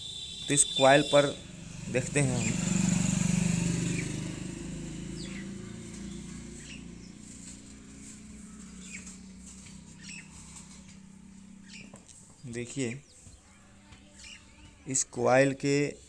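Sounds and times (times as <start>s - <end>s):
vehicle engine hum: 0.0s - 13.4s
bird chirps: 0.0s - 15.1s.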